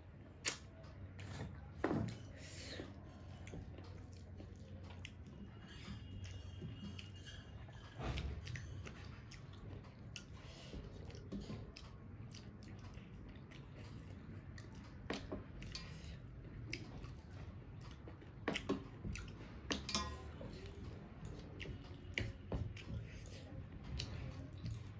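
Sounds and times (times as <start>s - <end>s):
mouth chewing: 0.4s - 1.7s, 2.7s - 24.9s.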